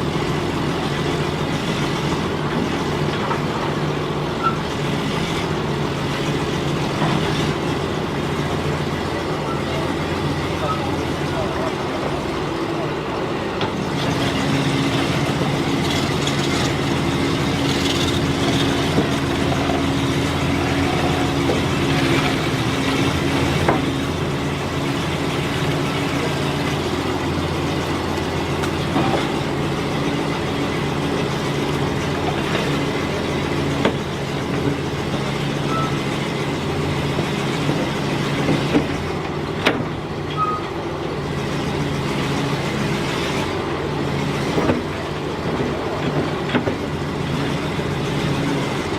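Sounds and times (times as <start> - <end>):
backhoe engine running: 0.0 - 48.9.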